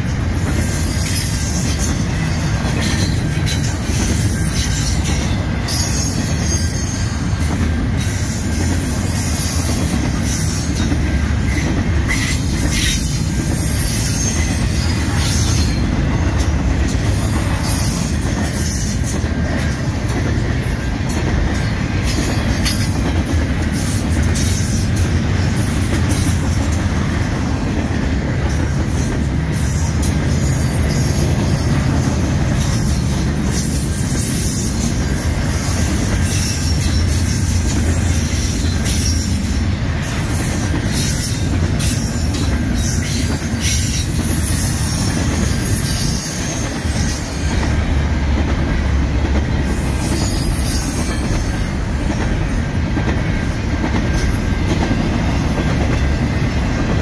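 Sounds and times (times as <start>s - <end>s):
steel wheels rumbling on rails: 0.0s - 57.0s.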